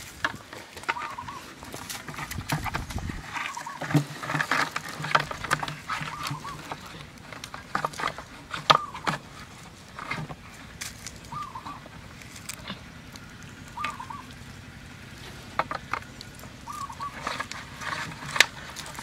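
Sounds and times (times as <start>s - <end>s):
chickens clucking: 0.2s - 19.0s.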